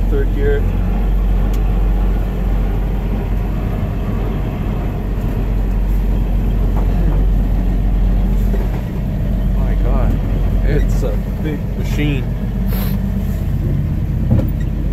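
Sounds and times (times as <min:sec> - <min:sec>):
diesel truck engine drone: 0:00.0 - 0:14.9.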